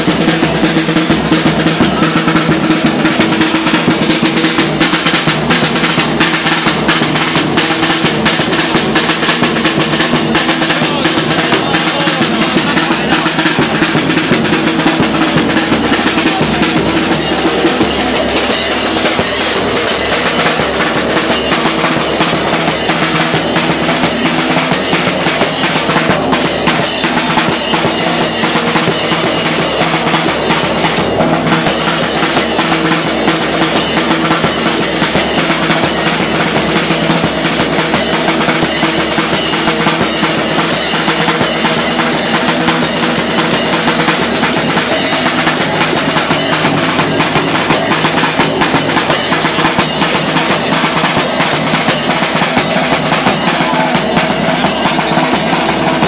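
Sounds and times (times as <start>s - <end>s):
drums in fast rhythm: 0.0s - 56.0s.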